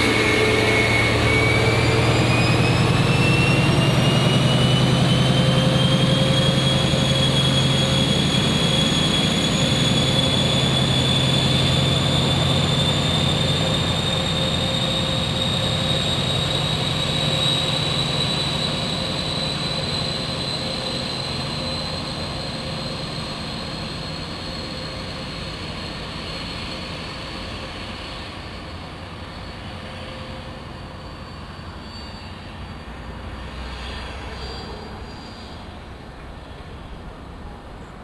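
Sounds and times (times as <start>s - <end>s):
diesel locomotive turbocharger scream: 0.0s - 35.7s.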